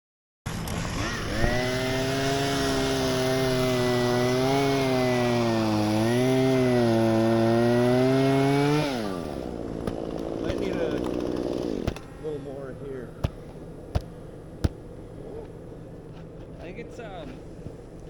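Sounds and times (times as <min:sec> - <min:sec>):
chainsaw cutting branch: 0:00.5 - 0:18.0.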